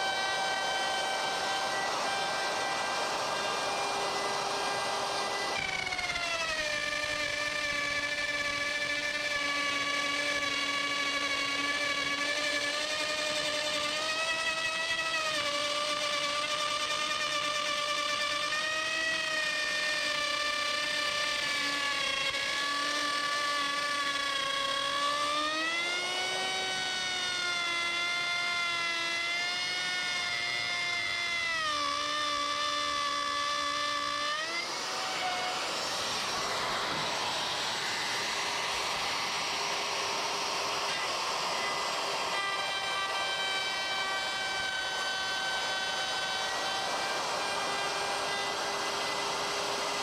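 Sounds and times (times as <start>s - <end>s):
electric router cutting wood: 0.0s - 50.0s.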